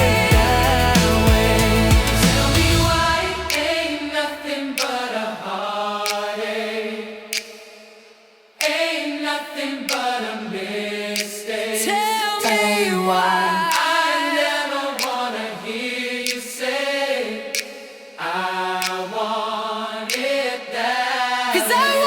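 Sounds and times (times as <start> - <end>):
choir-like a cappella vocals: 0.0 - 22.0.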